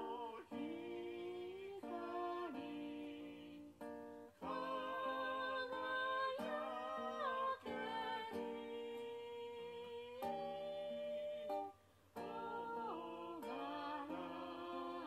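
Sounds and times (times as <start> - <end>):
acoustic guitar chords: 0.0 - 15.0
person singing: 0.0 - 15.0.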